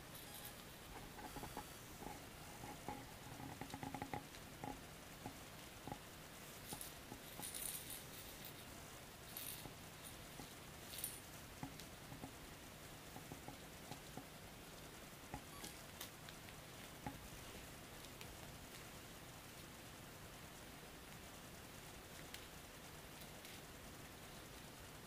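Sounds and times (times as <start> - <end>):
kitten playing with toys on carpet: 0.0 - 19.8, 22.0 - 25.0.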